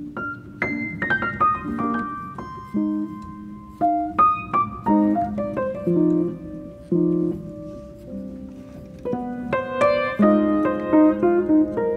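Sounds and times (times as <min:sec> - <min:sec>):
slow piano music: 0:00.0 - 0:11.9.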